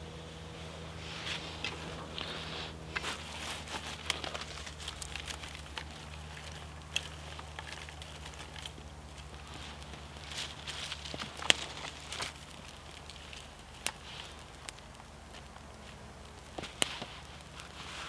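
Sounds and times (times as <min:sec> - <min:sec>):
fire crackling: 0:00.0 - 0:18.0
grass rustling: 0:00.0 - 0:18.0
twigs snapping: 0:01.2 - 0:18.0.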